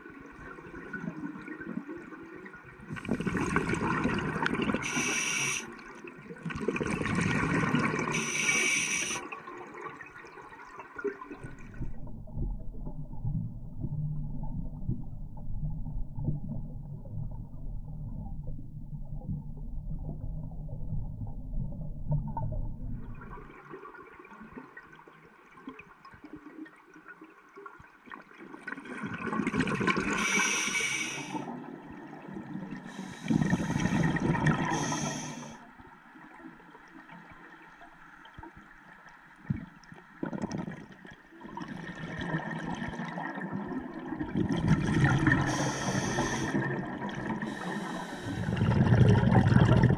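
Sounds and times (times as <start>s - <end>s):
underwater regulator bubbles gurgling: 0.0s - 24.9s, 28.6s - 35.6s, 39.4s - 49.9s.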